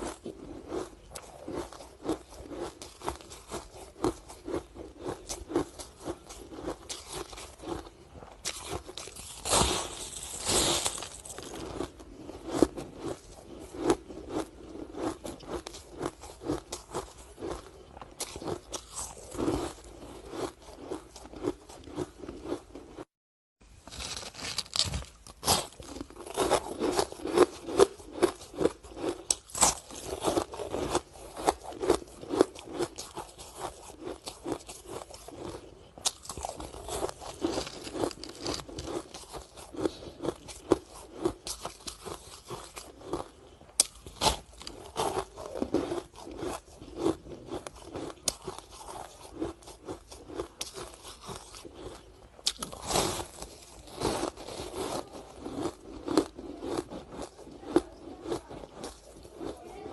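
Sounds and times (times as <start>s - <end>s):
ice being chewed and crunched: 0.0s - 23.1s, 23.8s - 59.9s.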